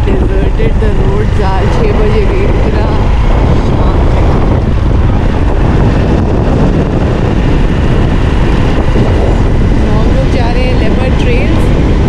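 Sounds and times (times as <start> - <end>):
vehicle rumbling along a road: 0.0 - 12.0.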